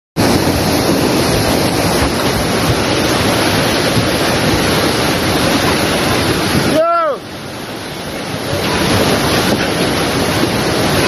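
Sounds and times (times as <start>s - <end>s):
floodwater rushing: 0.2s - 11.0s.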